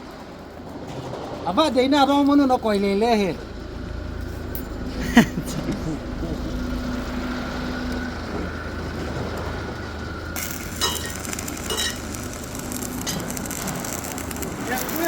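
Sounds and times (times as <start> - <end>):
low machine hum: 0.0 - 15.0
welding arc sizzling: 0.0 - 15.0.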